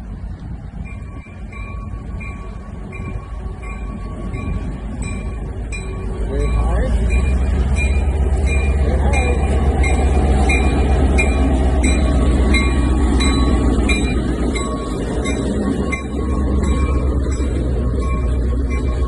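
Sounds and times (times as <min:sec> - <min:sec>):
train cars rumbling on rails: 0:00.0 - 0:19.0.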